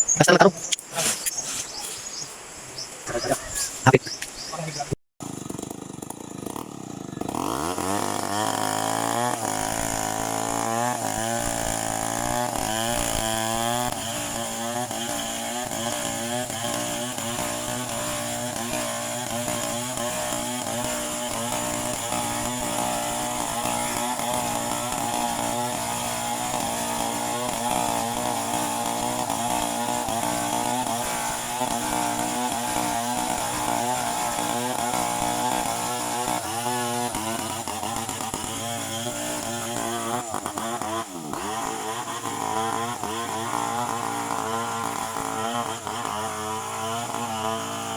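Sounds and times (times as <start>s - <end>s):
chainsaw engine revving: 5.2s - 47.9s.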